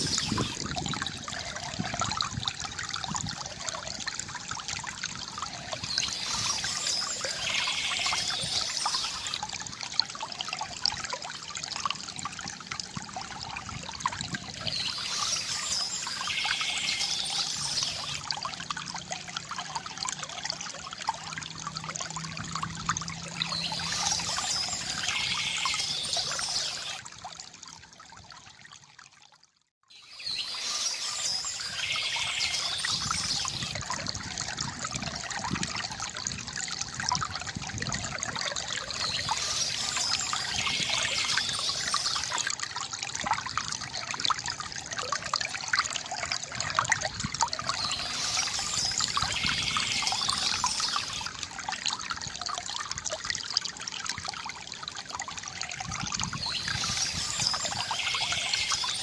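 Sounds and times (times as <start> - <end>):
water trickling from bamboo fountain: 0.0 - 59.0.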